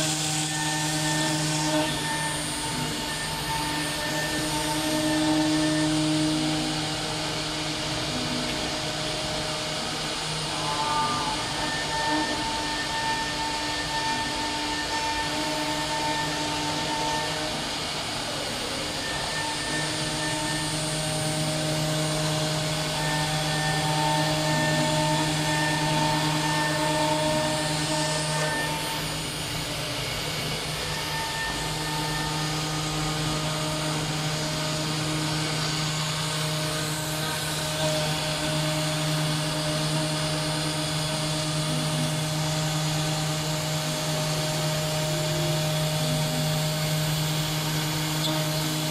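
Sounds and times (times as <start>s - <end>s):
cnc router hum and hiss: 0.0s - 48.9s
whining motor tones: 0.0s - 48.9s.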